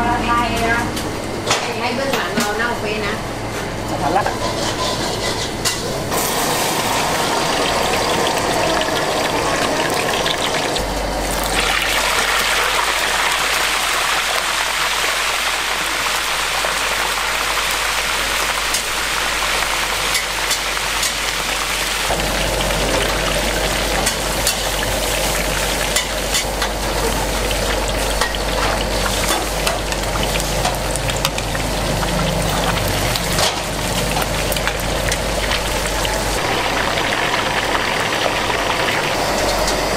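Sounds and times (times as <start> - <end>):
fish deep-frying in oil: 4.2 - 39.9.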